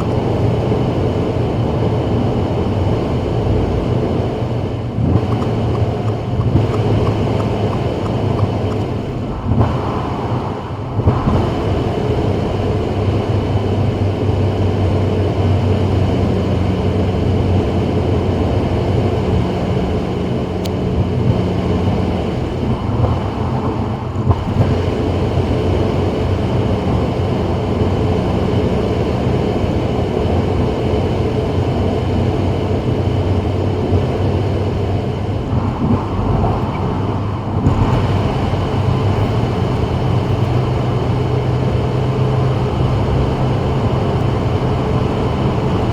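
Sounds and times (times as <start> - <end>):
low engine hum: 0.0 - 45.9
tyre and road noise: 0.0 - 45.9.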